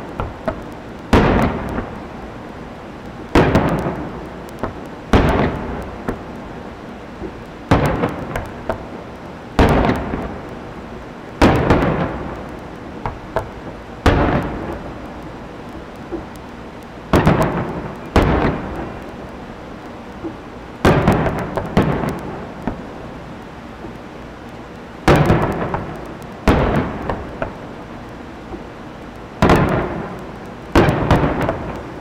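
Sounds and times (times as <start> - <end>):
fireworks booming: 0.0 - 32.0
small firework pops: 0.1 - 2.1, 3.0 - 6.4, 7.2 - 10.6, 11.4 - 22.9, 23.8 - 32.0.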